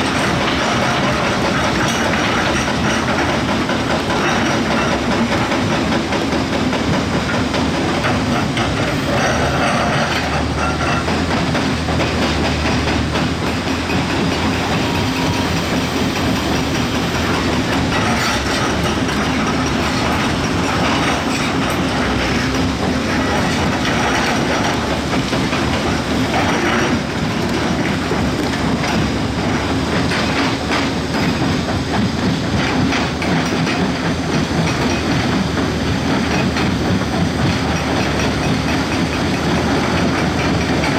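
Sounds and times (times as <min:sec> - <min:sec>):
diesel engine under load: 0:00.0 - 0:40.9
steel clattering and rattling: 0:00.0 - 0:40.9.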